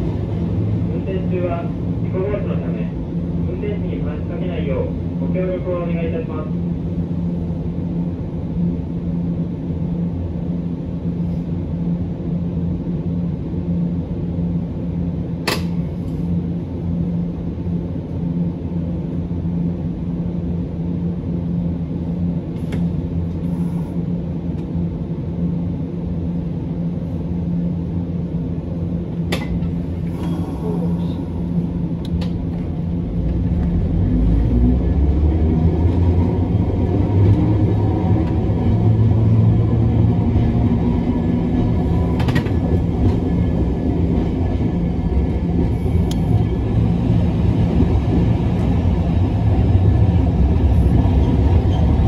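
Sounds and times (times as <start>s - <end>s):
tram interior hum: 0.0s - 52.0s
tram rumble: 0.0s - 52.0s.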